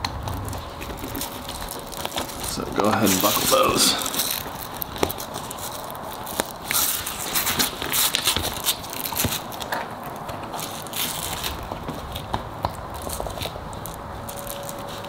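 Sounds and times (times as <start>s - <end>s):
fabric rustling and crinkling: 0.0s - 15.0s.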